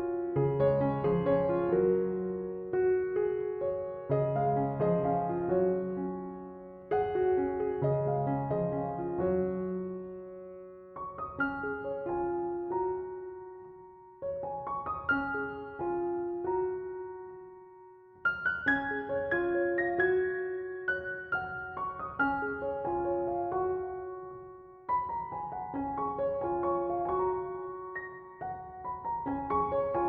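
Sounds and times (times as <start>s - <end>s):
slow gentle piano music: 0.0s - 30.0s.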